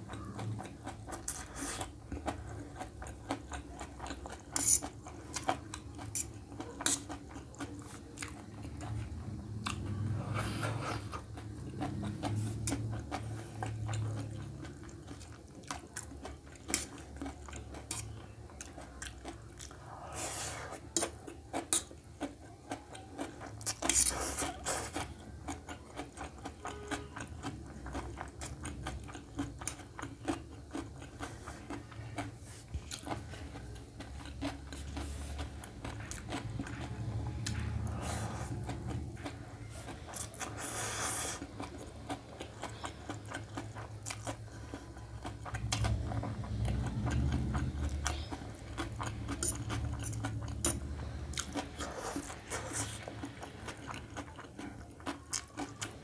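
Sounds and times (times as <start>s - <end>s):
wet chewing with mouth clicks: 0.0s - 56.0s.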